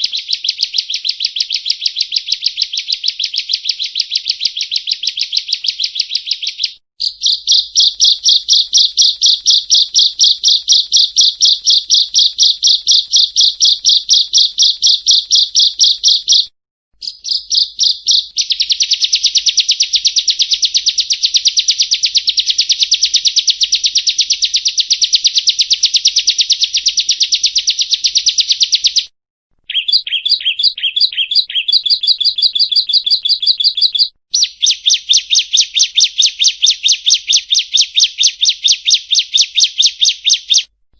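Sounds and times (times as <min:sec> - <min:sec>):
bird rapid high chirps: 0:00.0 - 0:40.7.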